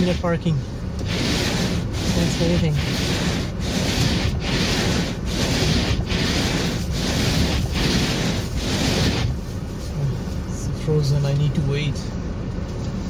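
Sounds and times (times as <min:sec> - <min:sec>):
wiper blades scraping icy windshield: 0:00.0 - 0:11.2.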